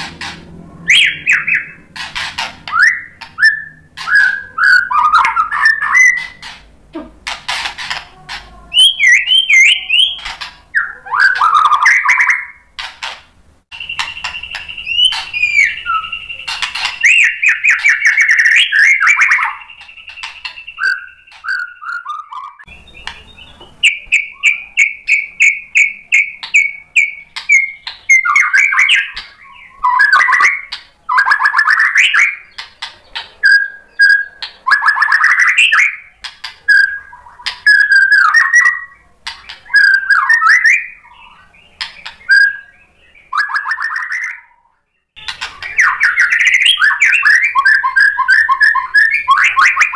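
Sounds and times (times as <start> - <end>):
songbird singing whistles and trills: 0.8 - 6.5, 8.7 - 12.7, 13.7 - 49.9.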